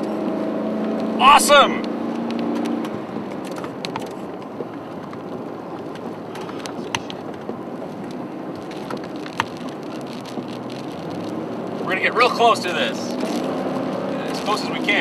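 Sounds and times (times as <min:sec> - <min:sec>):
rain on car windshield and roof: 0:00.0 - 0:15.0.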